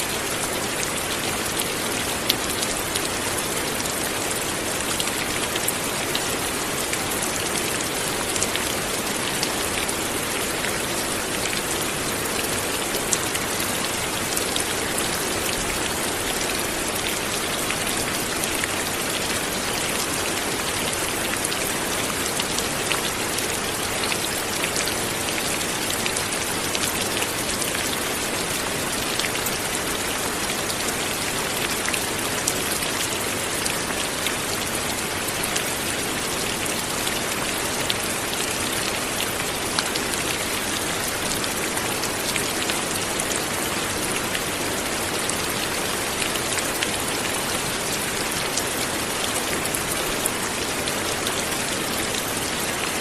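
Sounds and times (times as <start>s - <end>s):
light rain pattering: 0.0s - 53.0s.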